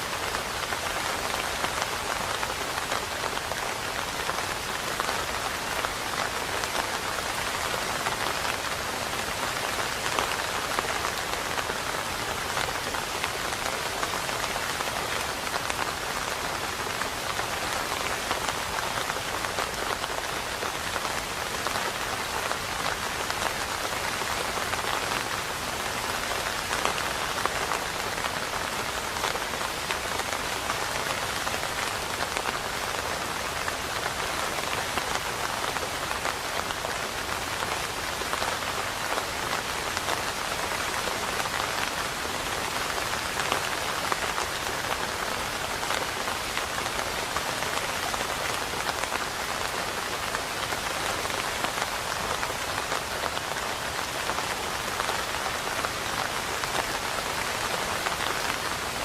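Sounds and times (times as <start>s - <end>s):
steady rain on hard surface: 0.0s - 59.0s.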